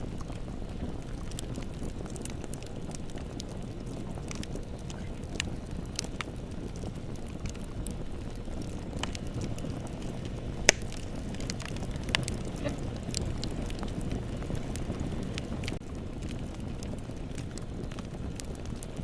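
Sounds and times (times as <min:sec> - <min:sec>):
bonfire rumbling: 0:00.0 - 0:19.0
burning wood crackling and popping: 0:00.0 - 0:19.0.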